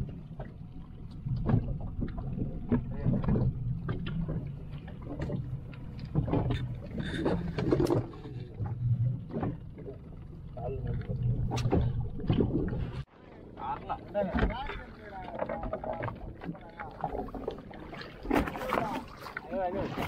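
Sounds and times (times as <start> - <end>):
boat engine droning: 0.0 - 19.5.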